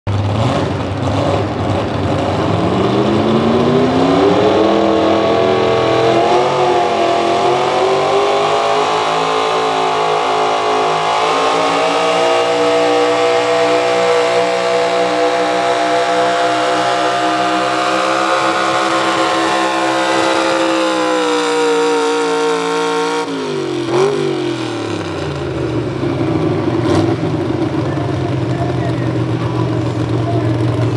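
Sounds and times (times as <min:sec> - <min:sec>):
truck engine at high revs: 0:00.1 - 0:30.9.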